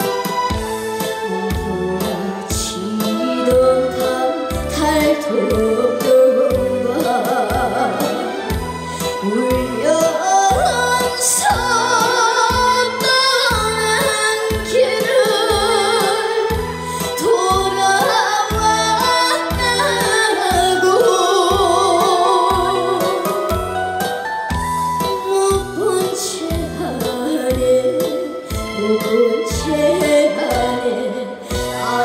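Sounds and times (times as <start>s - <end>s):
woman singing with vibrato: 1.1s - 23.8s, 25.1s - 32.0s.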